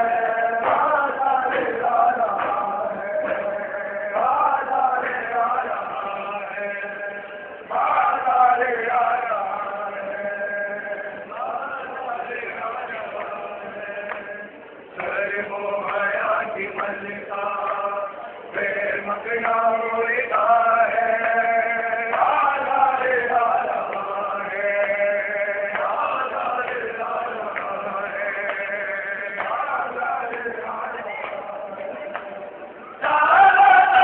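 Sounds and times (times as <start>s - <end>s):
men chanting a lament: 0.0s - 34.0s.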